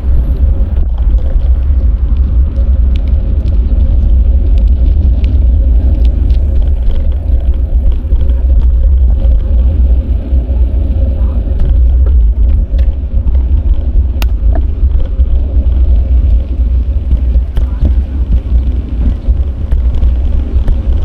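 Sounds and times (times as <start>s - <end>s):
traffic: 0.0s - 21.0s
wind buffeting microphone: 0.0s - 21.0s.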